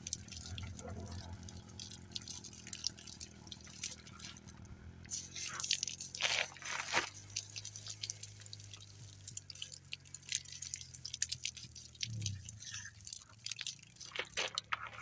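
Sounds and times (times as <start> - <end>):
water dripping and splattering: 0.0 - 15.0.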